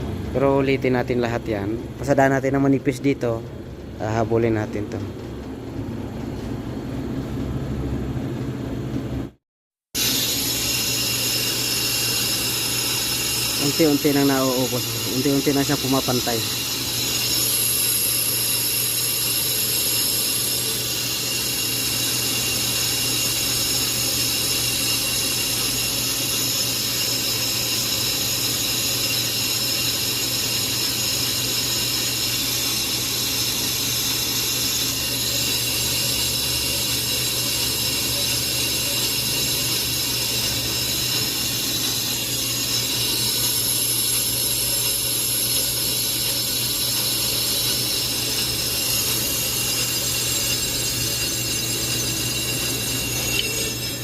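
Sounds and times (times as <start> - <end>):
high ringing cutting tones: 10.0 - 54.0
lathe motor hum: 10.0 - 54.0.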